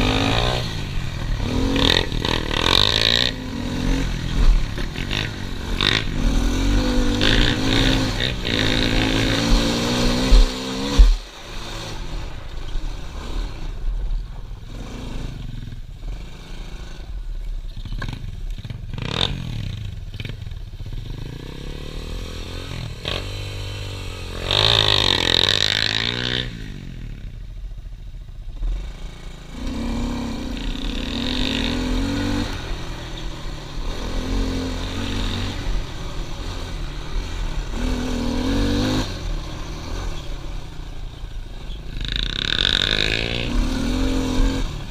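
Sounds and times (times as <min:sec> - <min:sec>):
small motorbike engine revving: 0:00.0 - 0:12.1, 0:17.8 - 0:27.2, 0:28.6 - 0:44.9.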